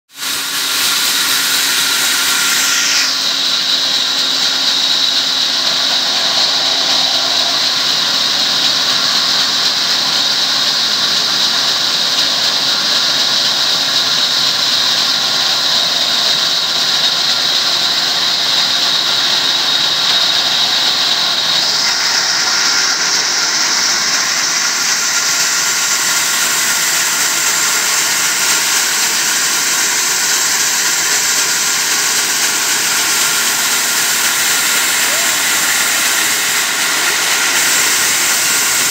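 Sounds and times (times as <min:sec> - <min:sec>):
band saw cutting wood: 0:00.2 - 0:38.9.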